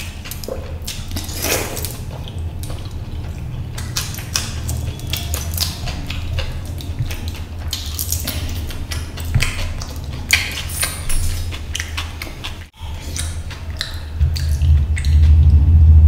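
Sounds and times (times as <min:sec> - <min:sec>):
person chewing food: 0:00.0 - 0:15.5
mouth clicks and smacks: 0:00.0 - 0:15.6
steady low hum: 0:00.0 - 0:16.0.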